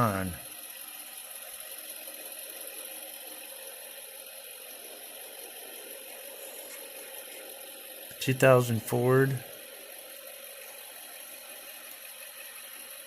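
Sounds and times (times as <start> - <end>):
mechanical hum with hiss: 0.0 - 13.0.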